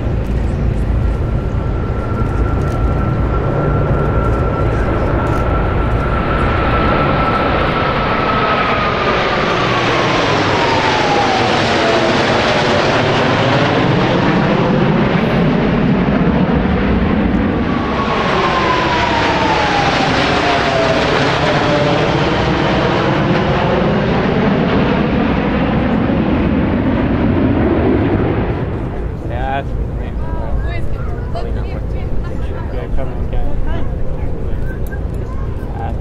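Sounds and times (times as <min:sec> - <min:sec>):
jet whine falling in pitch: 0:00.0 - 0:31.9
jet roar: 0:00.0 - 0:36.0.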